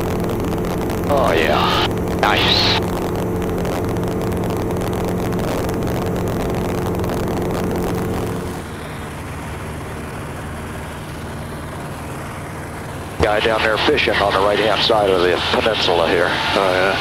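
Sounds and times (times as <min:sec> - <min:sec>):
light aircraft engine drone: 0:00.0 - 0:17.0.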